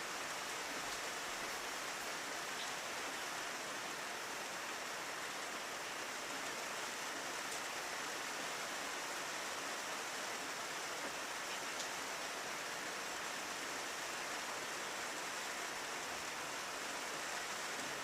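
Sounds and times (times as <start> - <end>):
rain on a window: 0.0 - 18.0.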